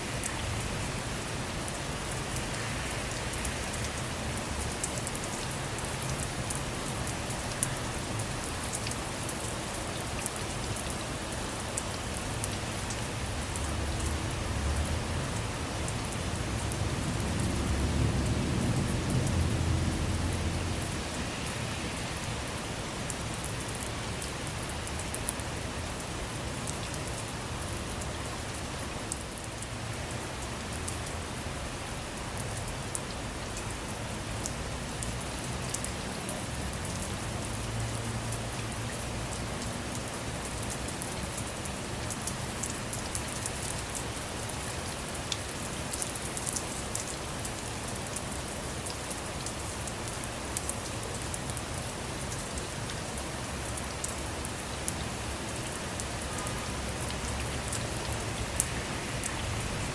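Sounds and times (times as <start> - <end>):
rain on a car from inside: 0.0 - 59.9.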